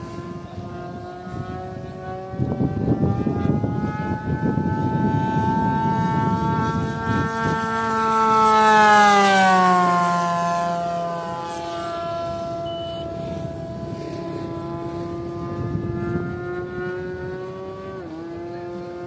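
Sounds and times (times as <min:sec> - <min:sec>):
low gusty rumble: 0:00.0 - 0:19.0
model plane propeller whine: 0:00.0 - 0:19.0.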